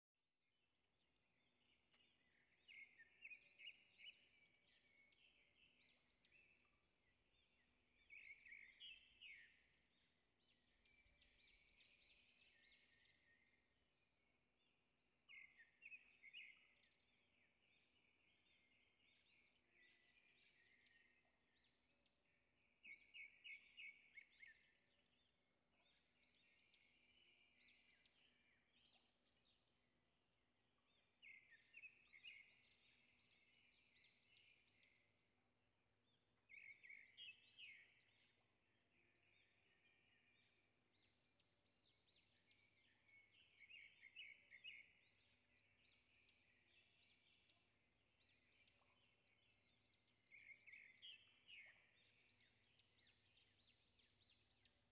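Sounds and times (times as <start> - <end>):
faint bird song: 0.0 - 54.9.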